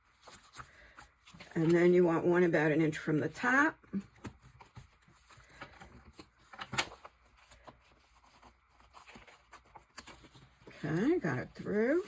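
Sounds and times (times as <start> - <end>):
paper rustling: 0.0 - 2.0, 3.9 - 12.0.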